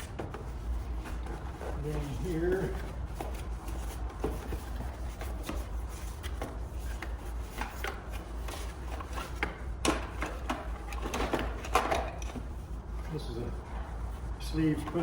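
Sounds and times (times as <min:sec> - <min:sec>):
packaging rustling and rubbing: 0:00.0 - 0:15.0
steady low hum: 0:00.0 - 0:15.0.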